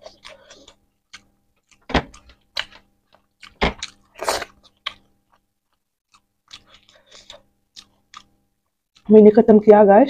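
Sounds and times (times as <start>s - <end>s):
wet chewing and smacking: 0.0s - 9.1s.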